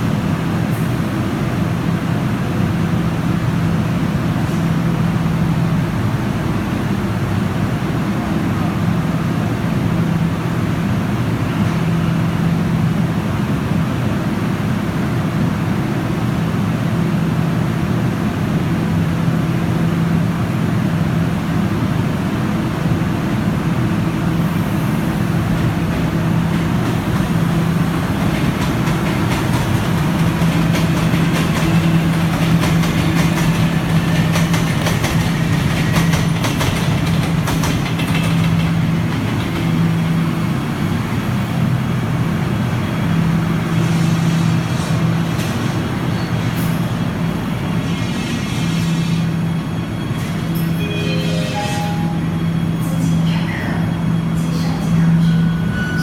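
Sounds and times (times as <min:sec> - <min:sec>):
metro train rumbling on track: 0:00.0 - 0:56.0.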